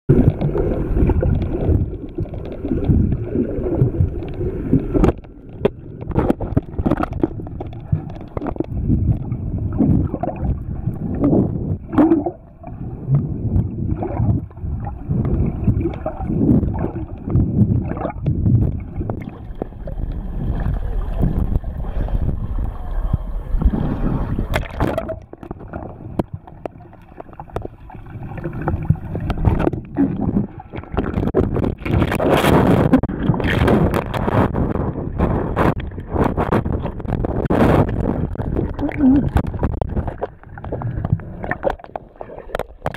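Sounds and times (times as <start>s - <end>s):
muffled underwater sloshing: 0.1s - 42.9s.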